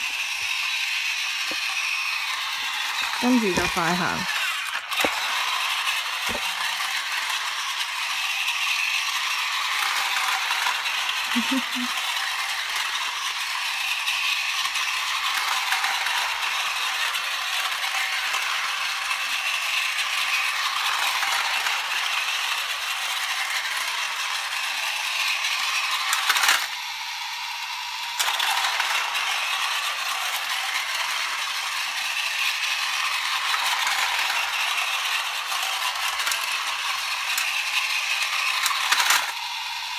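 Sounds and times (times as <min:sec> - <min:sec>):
toy train whirring and rattling: 0:00.0 - 0:39.9.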